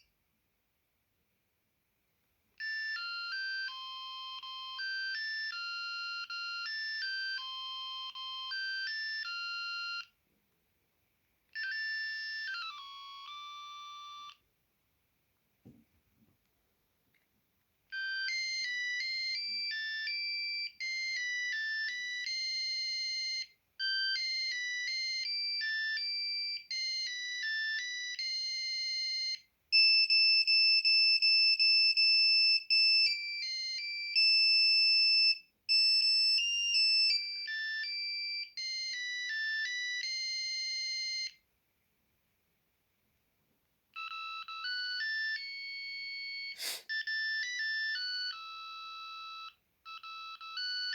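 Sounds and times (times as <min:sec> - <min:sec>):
mobile phone ringtone melody: 0:02.6 - 0:10.2, 0:11.6 - 0:14.4, 0:17.9 - 0:41.4, 0:44.0 - 0:50.9.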